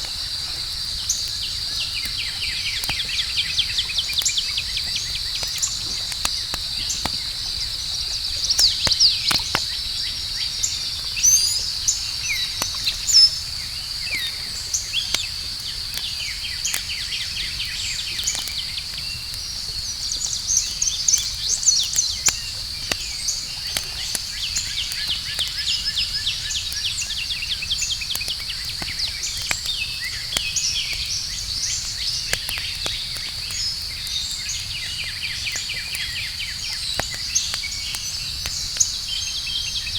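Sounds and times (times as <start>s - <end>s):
campfire crackling: 0.0s - 39.9s
crickets droning: 0.0s - 39.9s.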